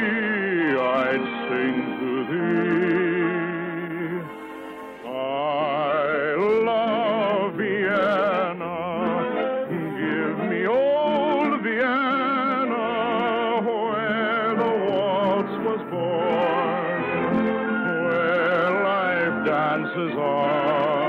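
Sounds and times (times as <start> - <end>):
operetta singing with vibrato: 0.0 - 21.0
orchestra playing: 0.3 - 5.4, 8.0 - 21.0.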